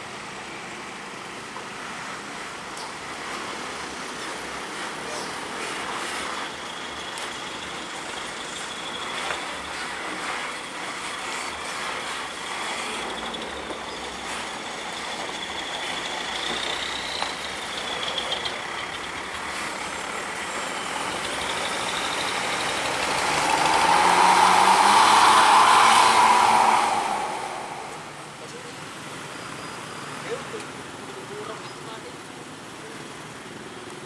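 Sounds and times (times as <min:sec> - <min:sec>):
buses passing: 0:00.0 - 0:34.0.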